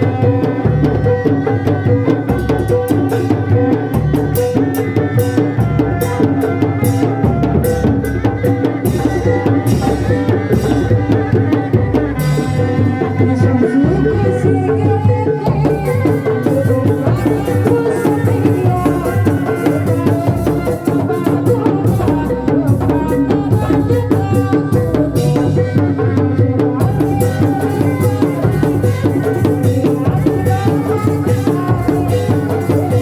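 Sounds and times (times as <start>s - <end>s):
hand drums and percussion: 0.0s - 33.0s.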